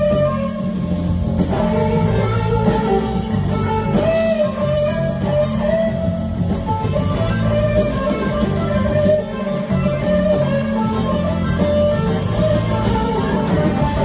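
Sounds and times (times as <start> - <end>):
bass: 0.0 - 14.0
drums: 0.0 - 14.0
electric slide guitar solo: 0.0 - 14.0.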